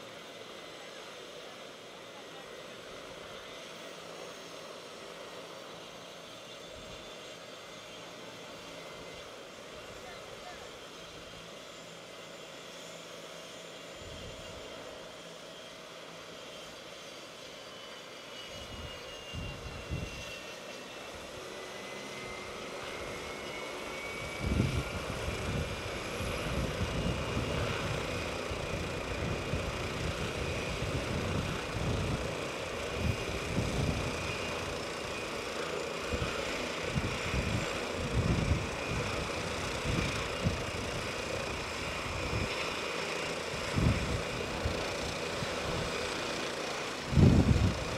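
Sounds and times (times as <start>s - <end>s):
helicopter turbine whine: 0.0s - 47.9s.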